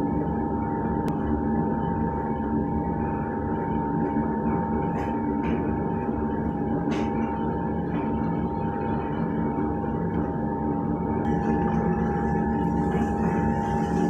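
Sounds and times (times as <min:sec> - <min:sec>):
high whine: 0:00.0 - 0:14.0
machine motor hum: 0:00.0 - 0:14.0.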